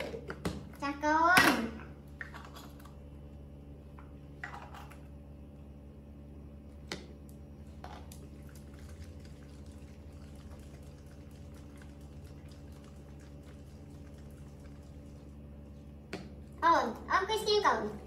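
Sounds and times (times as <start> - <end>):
quiet steady hum: 0.0 - 18.0.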